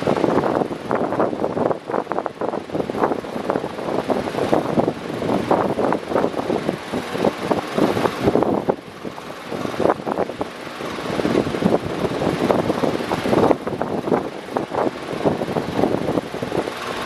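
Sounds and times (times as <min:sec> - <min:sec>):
electric fan rushing air: 0:00.0 - 0:17.0.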